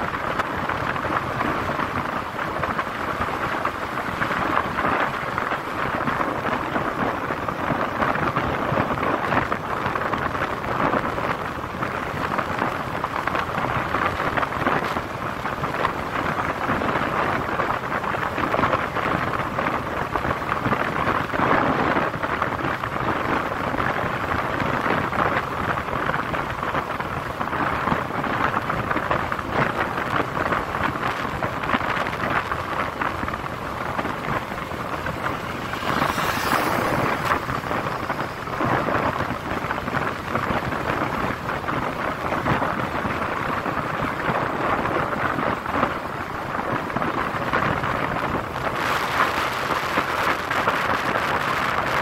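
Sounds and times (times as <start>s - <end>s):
motorcycle road noise: 0.0s - 52.0s
wind buffeting microphone: 0.0s - 52.0s.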